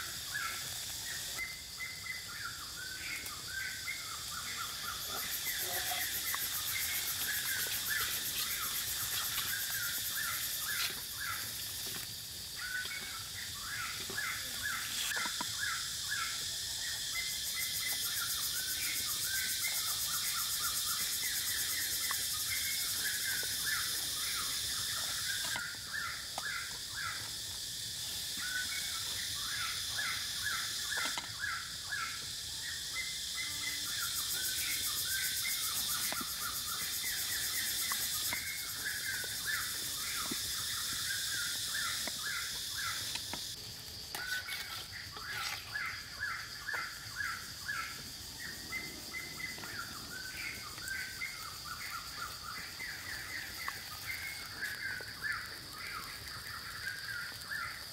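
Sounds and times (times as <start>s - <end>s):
high insect drone: 0.0s - 57.9s.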